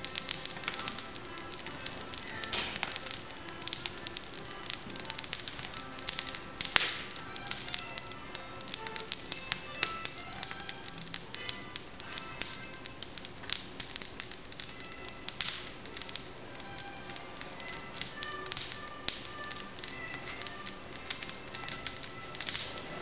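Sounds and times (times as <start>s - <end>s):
fire crackling and popping: 0.0s - 23.0s
soft background music: 0.0s - 23.0s.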